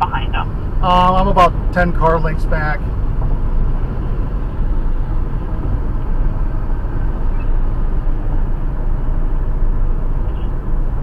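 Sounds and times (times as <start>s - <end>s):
road and tyre noise: 0.0s - 11.0s.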